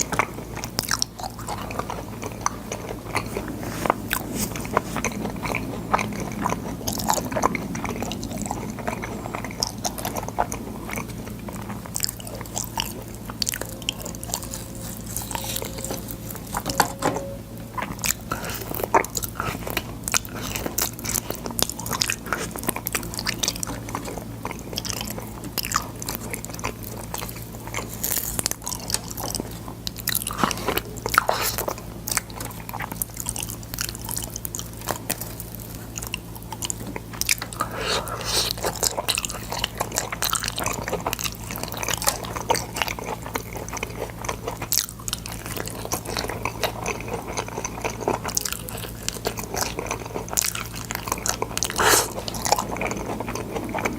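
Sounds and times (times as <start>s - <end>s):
chewing crunchy bean pods: 0.0s - 53.9s
steady low hum: 0.0s - 53.9s.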